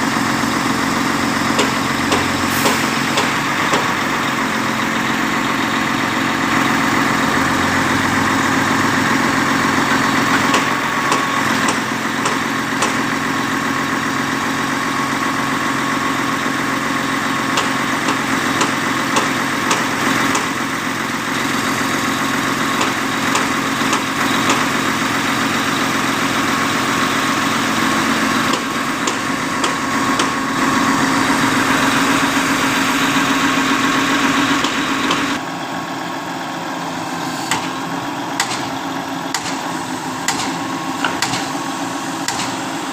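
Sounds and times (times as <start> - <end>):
concrete pump engine running: 0.0 - 42.9.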